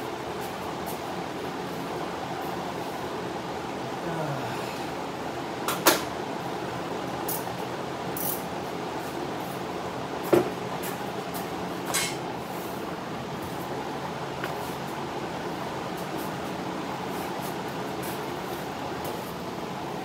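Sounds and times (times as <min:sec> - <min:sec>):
shop fan whirring: 0:00.0 - 0:20.0.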